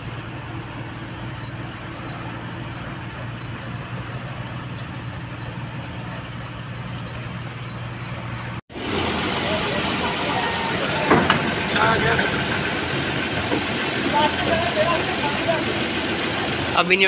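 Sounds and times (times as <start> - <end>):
truck diesel engine running: 0.0 - 17.0
tyre and road noise: 0.0 - 17.0.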